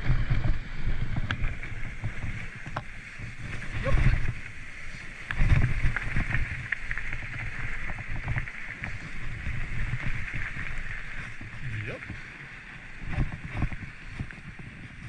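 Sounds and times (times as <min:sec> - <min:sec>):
bike rattling and clicking: 0:00.0 - 0:15.0
wind rumbling on microphone: 0:00.0 - 0:15.0.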